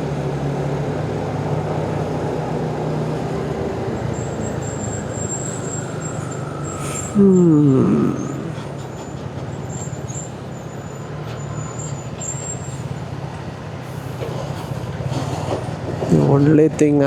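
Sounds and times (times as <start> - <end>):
road noise: 0.0 - 17.0
wind: 0.0 - 17.0.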